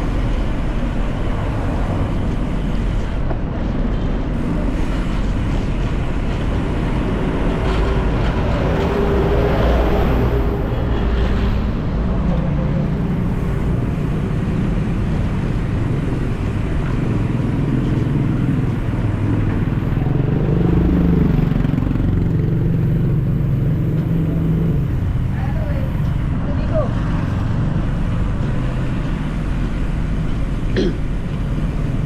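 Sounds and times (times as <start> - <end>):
traffic engines rumbling: 0.0 - 32.0.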